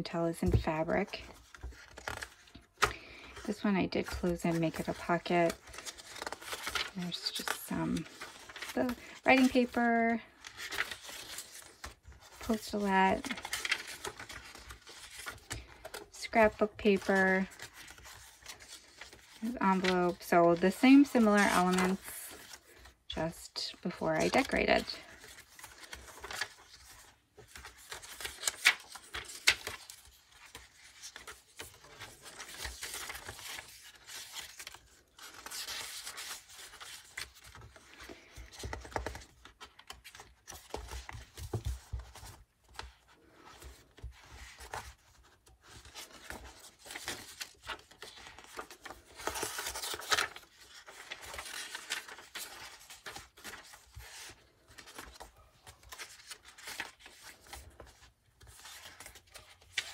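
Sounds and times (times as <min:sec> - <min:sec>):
paper pages rustling: 0:00.4 - 0:59.9.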